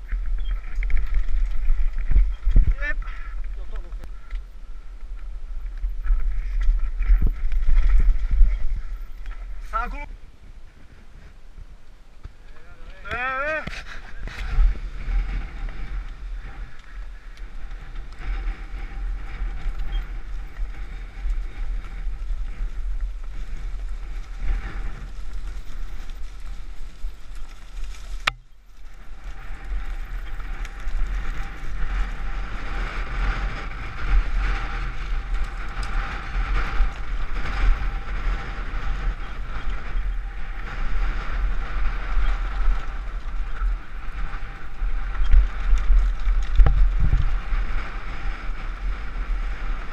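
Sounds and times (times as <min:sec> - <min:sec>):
bike rattling: 0:00.0 - 0:49.9
bike tyres rolling over dirt: 0:00.0 - 0:49.9
wind buffeting microphone: 0:00.0 - 0:49.9.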